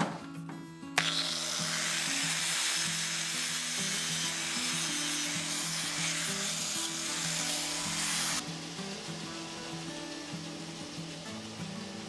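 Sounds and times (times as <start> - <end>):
angle grinder grinding steel: 1.0 - 12.0.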